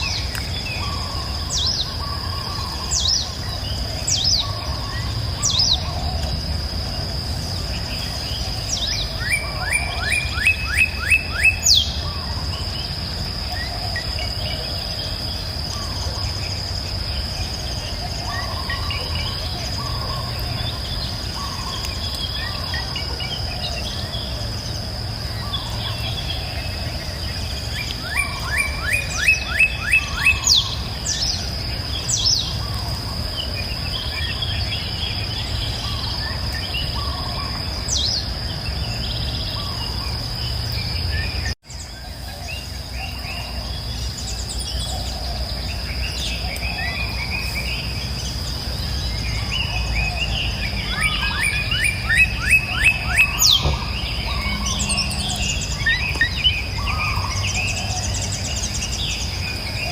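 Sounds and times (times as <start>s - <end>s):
birds chirping and singing: 0.0s - 59.9s
high-pitched insect drone: 0.0s - 59.9s.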